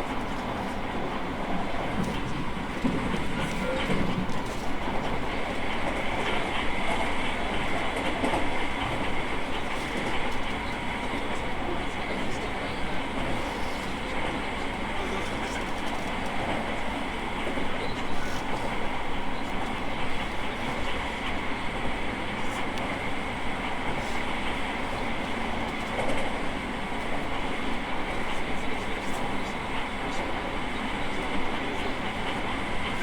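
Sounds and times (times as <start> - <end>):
steady train whine: 0.0 - 33.0
train wheel and rail rumble: 0.0 - 33.0
faint rail joint clicks: 1.5 - 33.0.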